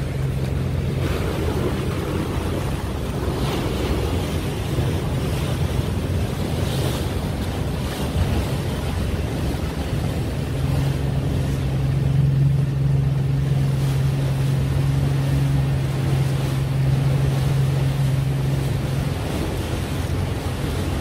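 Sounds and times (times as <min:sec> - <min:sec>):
boat engine humming: 0:00.0 - 0:21.0
water noise: 0:00.0 - 0:21.0
wind: 0:00.0 - 0:21.0.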